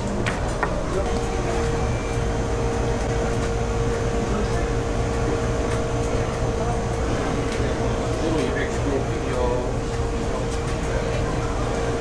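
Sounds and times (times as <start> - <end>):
machinery hum and rumble: 0.0 - 12.0.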